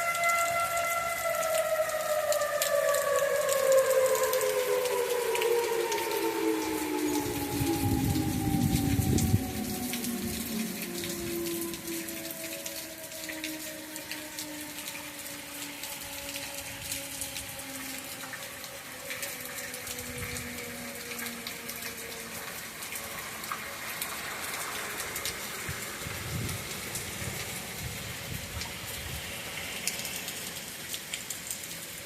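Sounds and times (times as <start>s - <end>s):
warning siren winding down: 0.0s - 29.2s
steady rain: 0.0s - 32.0s.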